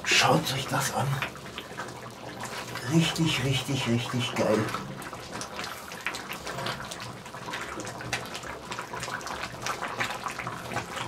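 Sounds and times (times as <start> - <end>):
stew bubbling and popping: 0.0 - 11.0.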